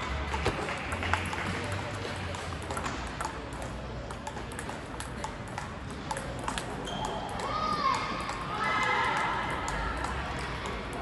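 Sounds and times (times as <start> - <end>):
table tennis balls clicking: 0.0 - 11.0.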